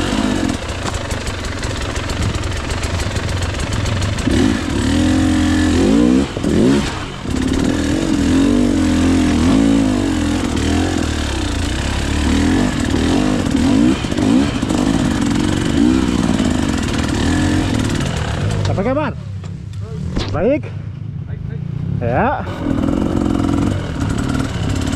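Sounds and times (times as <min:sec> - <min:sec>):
two-stroke motorbike engine revving: 0:00.0 - 0:19.1, 0:21.8 - 0:24.9.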